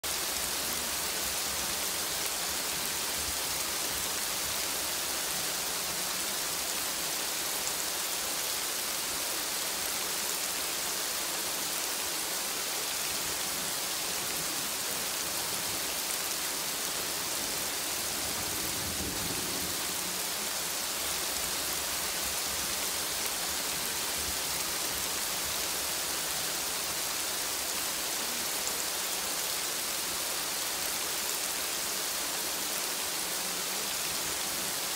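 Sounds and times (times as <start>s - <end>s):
rain hiss: 0.0s - 34.9s.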